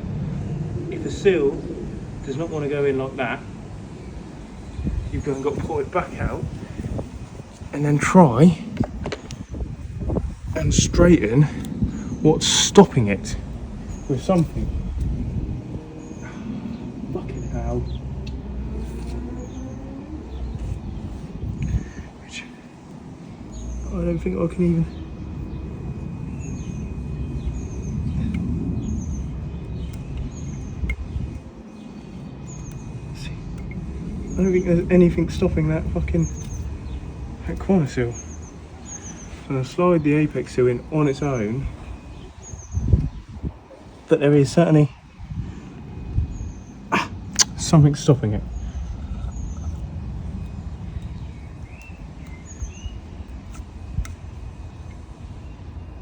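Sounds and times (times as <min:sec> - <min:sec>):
low background rumble: 0:00.0 - 0:56.0
small bird chirping: 0:03.9 - 0:44.1, 0:46.0 - 0:56.0.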